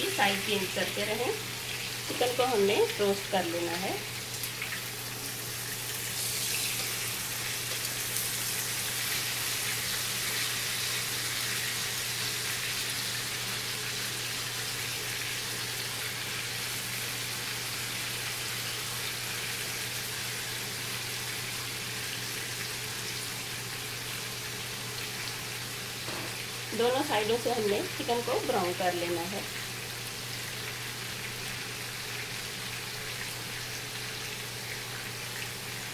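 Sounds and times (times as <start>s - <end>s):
chicken sizzling in hot oil: 0.0s - 35.9s.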